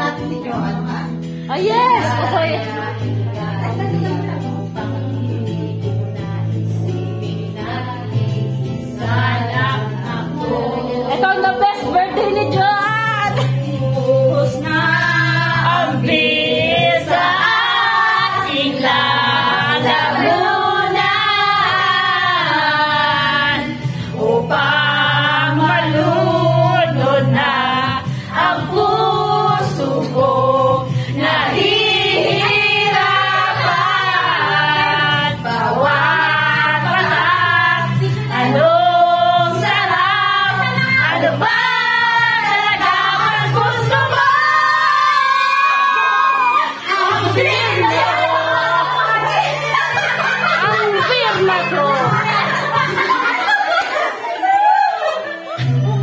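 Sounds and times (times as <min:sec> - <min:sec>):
backing music with bass line: 0:00.0 - 0:56.0
women singing together: 0:00.0 - 0:56.0.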